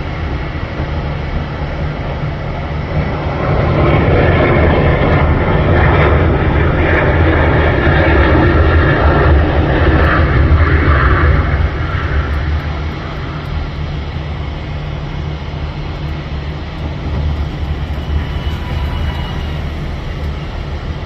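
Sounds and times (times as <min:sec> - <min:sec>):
jet engines roaring past: 0:00.0 - 0:21.0.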